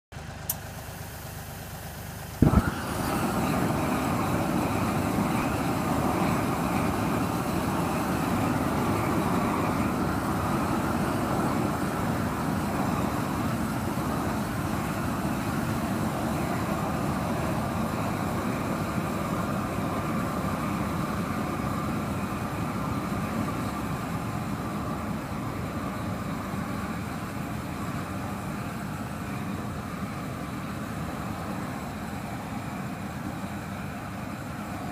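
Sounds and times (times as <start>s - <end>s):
tractor engine running: 0.1s - 34.9s
burner rushing noise: 1.0s - 34.8s.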